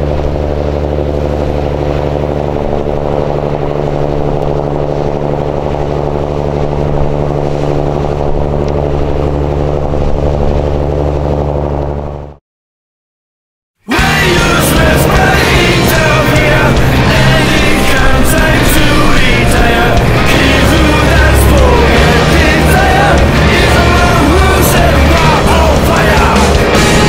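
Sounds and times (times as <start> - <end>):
boat engine drone: 0.0 - 12.4, 13.8 - 27.0.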